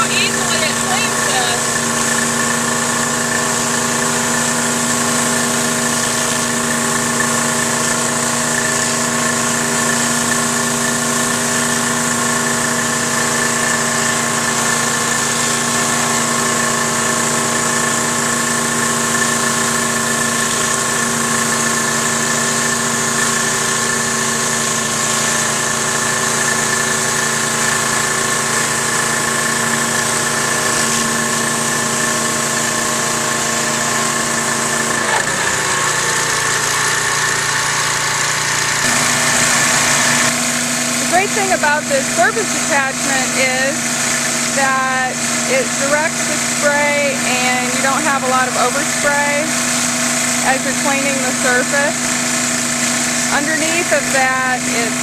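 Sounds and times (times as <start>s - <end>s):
high-pressure water spray hiss: 0.0s - 55.0s
pressure washer engine running: 0.0s - 55.0s.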